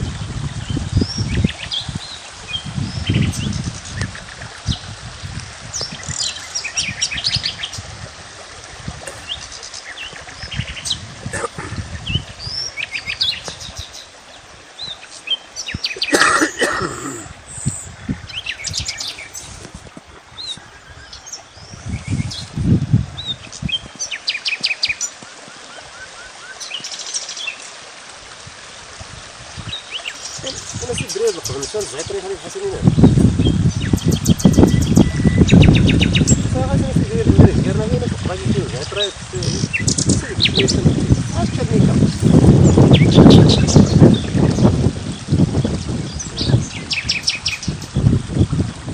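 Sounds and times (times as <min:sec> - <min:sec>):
birds chirping and trilling: 0:00.5 - 0:04.9, 0:05.7 - 0:07.8, 0:09.1 - 0:19.7, 0:20.3 - 0:27.7, 0:29.6 - 0:48.2.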